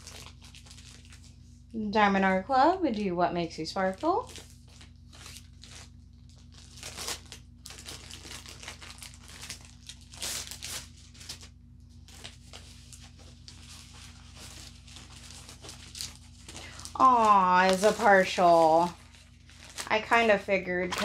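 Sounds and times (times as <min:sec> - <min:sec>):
wrapping crinkling and tearing: 0:00.0 - 0:01.7, 0:03.8 - 0:21.0.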